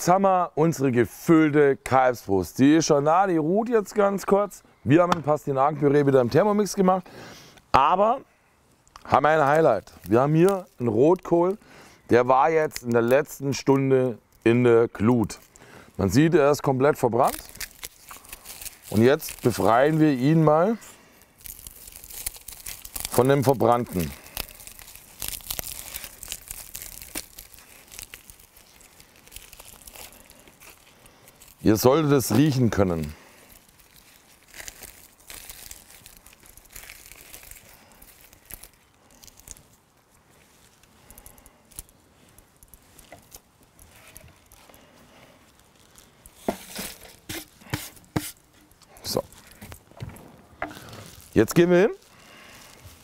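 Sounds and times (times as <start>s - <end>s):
charred leaves crackling and crunching: 2.4s - 53.0s.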